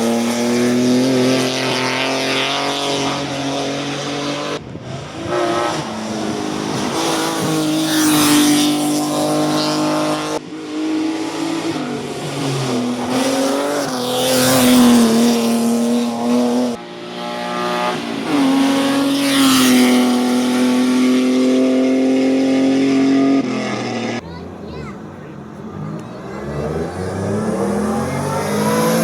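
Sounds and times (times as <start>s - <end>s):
race car engine at high revs: 0.0s - 29.0s.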